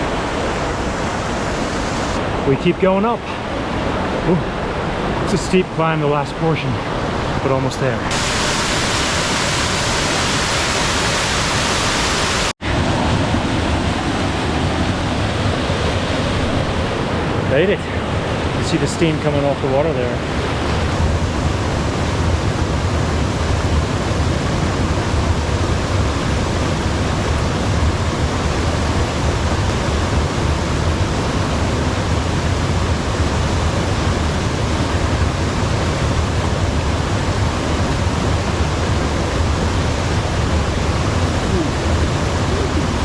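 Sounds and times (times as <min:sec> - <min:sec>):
rush of flowing water: 0:00.0 - 0:43.0.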